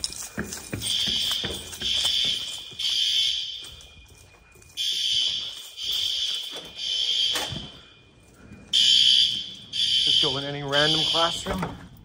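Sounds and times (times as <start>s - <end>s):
fire alarm horn blasts: 0.8s - 12.0s.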